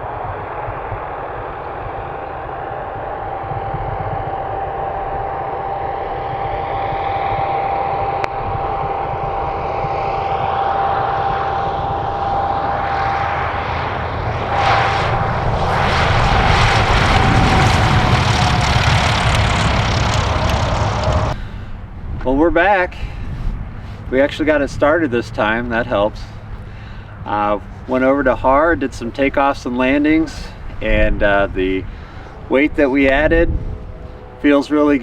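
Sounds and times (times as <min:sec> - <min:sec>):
rushing airflow: 0:00.0 - 0:22.2, 0:22.9 - 0:34.4
light aircraft engine and propeller: 0:00.0 - 0:35.0.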